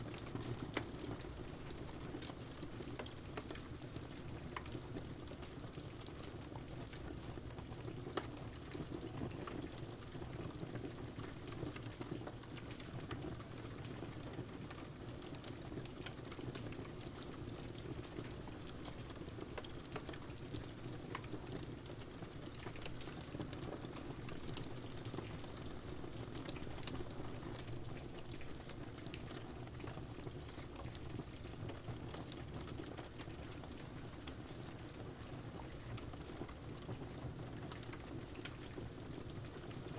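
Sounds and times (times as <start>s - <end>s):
rain: 0.0s - 39.9s.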